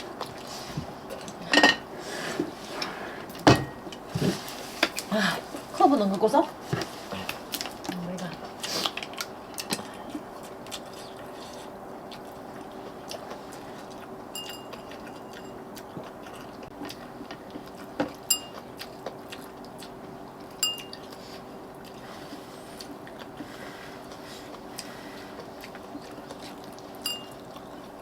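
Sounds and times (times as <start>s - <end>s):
chewing: 0.0s - 1.5s, 6.7s - 28.0s
faint steady hum: 0.0s - 28.0s.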